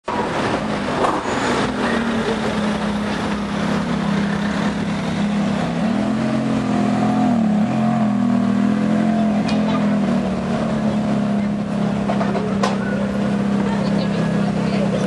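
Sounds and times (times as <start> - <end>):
city traffic noise: 0.0 - 15.0.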